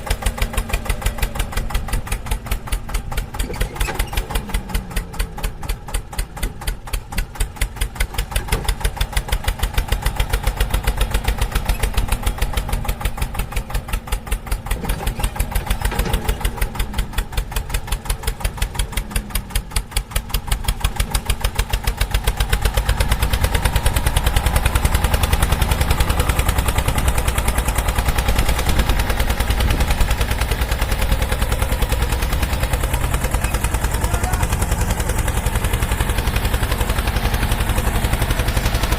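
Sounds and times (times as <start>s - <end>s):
tractor engine thumping: 0.0s - 38.9s.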